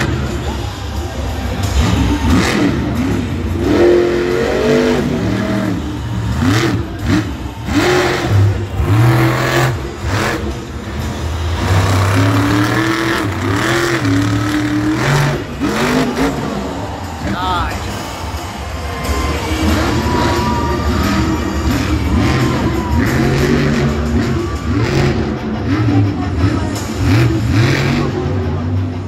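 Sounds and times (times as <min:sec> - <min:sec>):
truck engine revving hard: 0:00.0 - 0:29.0.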